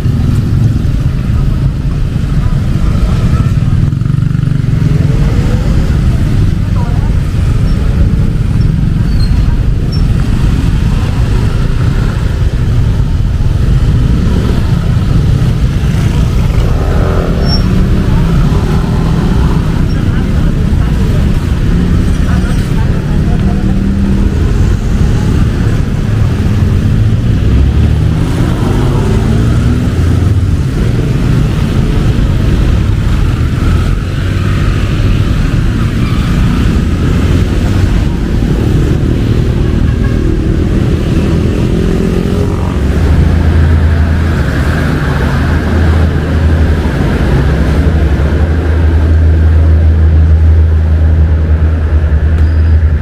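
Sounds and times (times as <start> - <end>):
motorcycle and car engines: 0.0 - 53.0.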